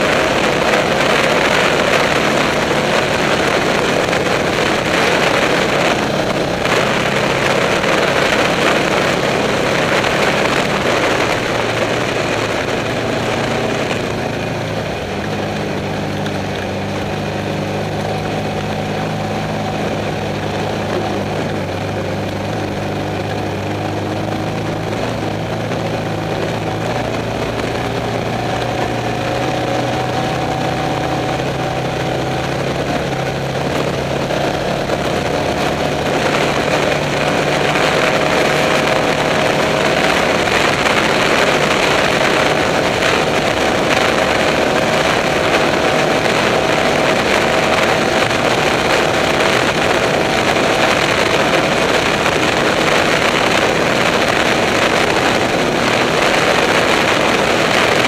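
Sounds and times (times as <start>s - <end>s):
race car engine running: 0.0s - 58.0s
rush of wind and dirt: 0.0s - 58.0s.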